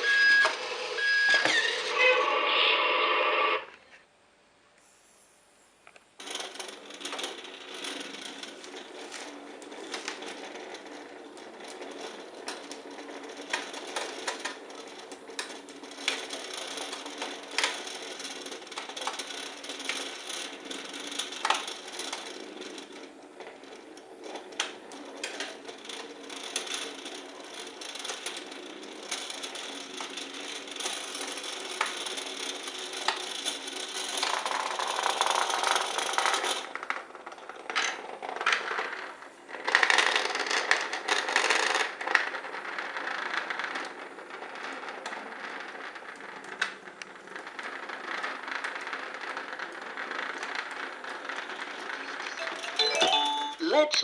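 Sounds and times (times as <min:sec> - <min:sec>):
toys clicking and rattling: 0:05.9 - 0:54.0.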